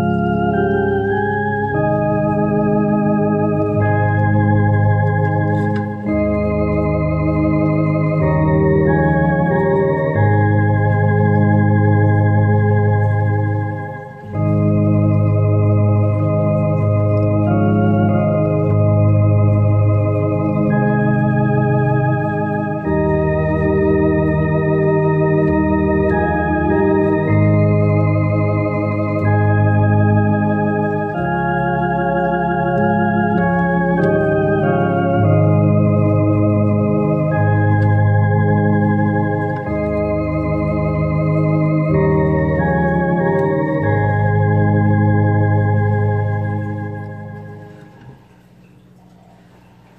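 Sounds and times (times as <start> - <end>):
electronic organ playing a hymn: 0.0 - 49.9.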